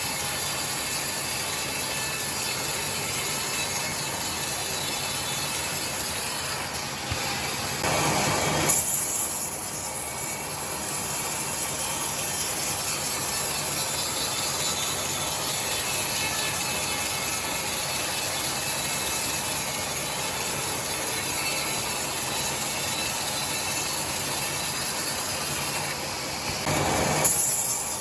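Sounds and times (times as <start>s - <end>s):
sawmill saw cutting timber: 0.0s - 28.0s.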